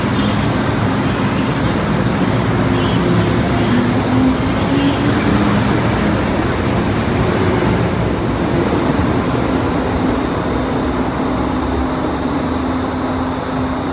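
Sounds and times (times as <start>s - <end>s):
low motor hum: 0.0s - 13.9s
wheels rumbling on rail: 0.0s - 13.9s.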